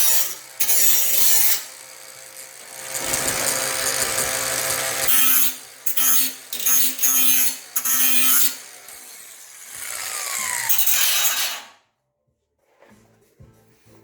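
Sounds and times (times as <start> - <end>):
wire wheel grinder buffing steel: 0.0 - 11.8.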